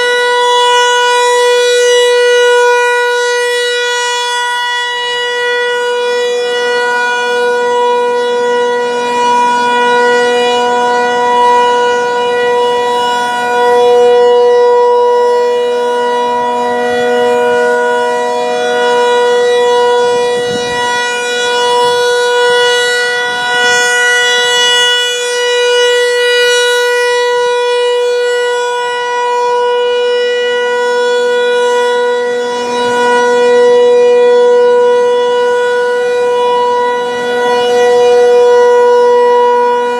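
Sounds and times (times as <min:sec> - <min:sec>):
rotating warning siren steady tone: 0:00.0 - 0:39.9.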